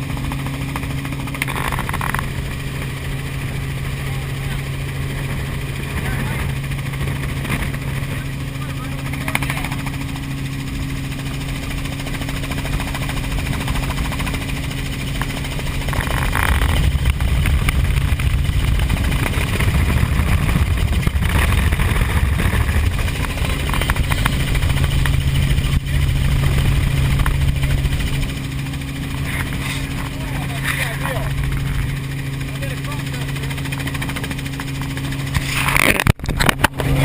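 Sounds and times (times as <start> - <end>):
helicopter flying: 0.0 - 37.0.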